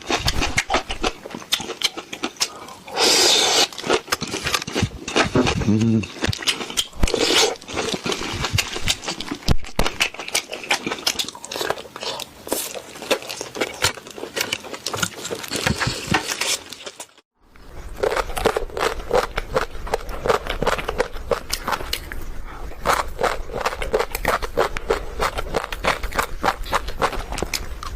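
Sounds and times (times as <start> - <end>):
chewing and crunching: 0.0 - 27.9.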